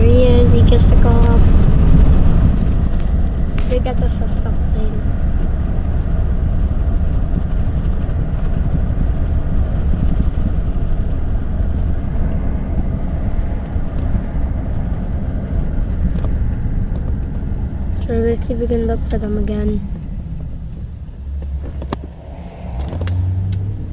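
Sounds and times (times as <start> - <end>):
low rumble inside car: 0.0 - 23.9.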